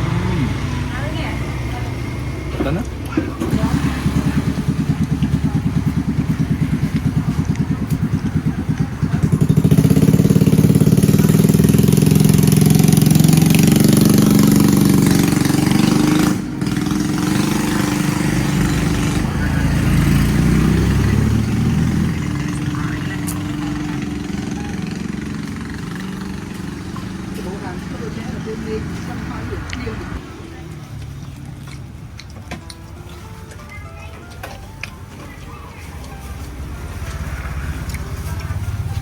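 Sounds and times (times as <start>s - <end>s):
small vehicle engine idling and revving: 0.0s - 33.5s, 34.4s - 39.0s.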